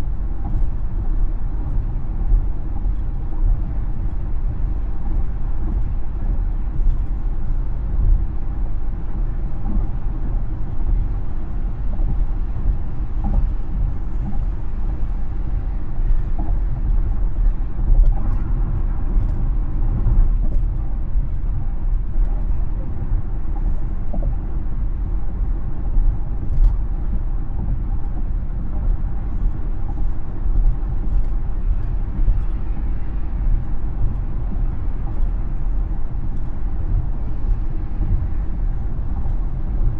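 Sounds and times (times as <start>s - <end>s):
tyre and road rumble: 0.0s - 39.9s.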